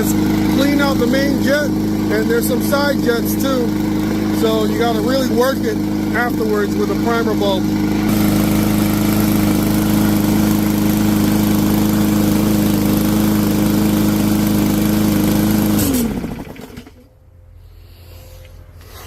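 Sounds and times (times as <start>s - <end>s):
lawn mower engine running: 0.0s - 17.2s
engine winding down: 0.0s - 17.5s.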